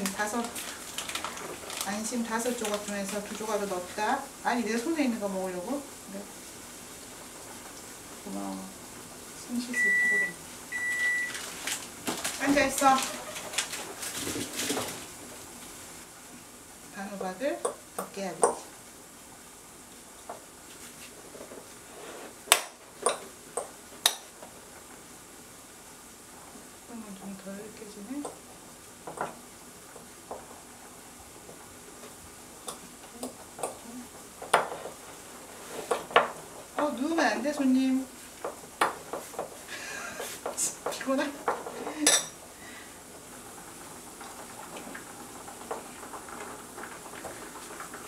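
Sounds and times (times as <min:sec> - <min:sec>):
pot boiling hiss: 0:00.0 - 0:48.0.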